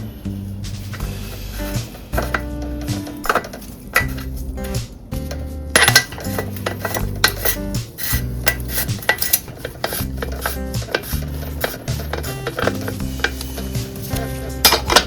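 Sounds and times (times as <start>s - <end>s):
background music with bass line: 0.0s - 15.0s
metal tools clinking and scraping: 0.8s - 15.0s.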